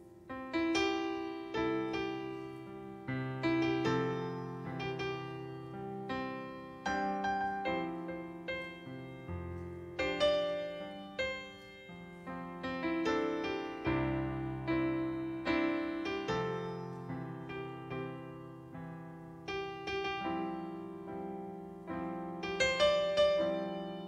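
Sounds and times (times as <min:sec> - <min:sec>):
slow gentle piano piece: 0:00.0 - 0:24.0.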